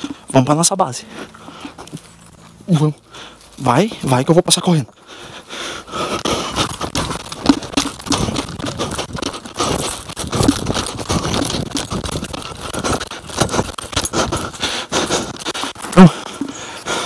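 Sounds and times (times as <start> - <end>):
gear rattling and jangling: 0.0 - 17.0
running footsteps: 0.0 - 17.0.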